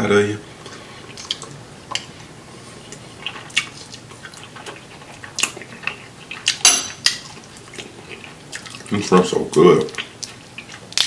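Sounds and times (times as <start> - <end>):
wet eating sounds: 0.5 - 11.0.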